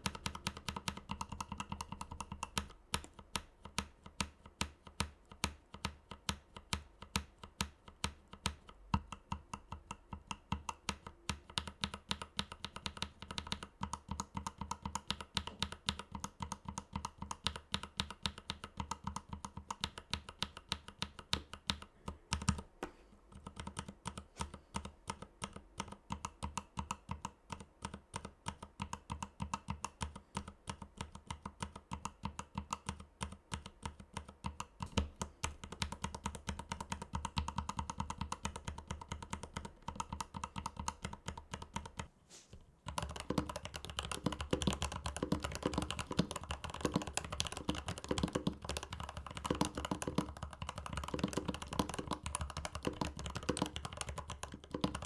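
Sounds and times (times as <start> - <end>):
mechanical keyboard typing: 0.0 - 22.7, 23.3 - 42.1, 42.8 - 55.0.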